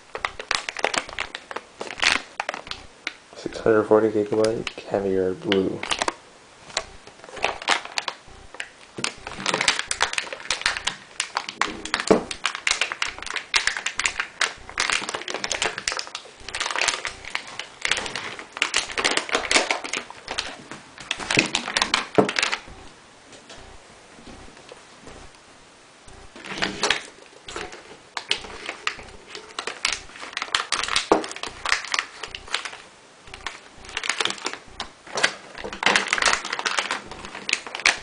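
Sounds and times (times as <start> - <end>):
plastic packaging crinkling: 0.0 - 22.7, 26.3 - 38.0.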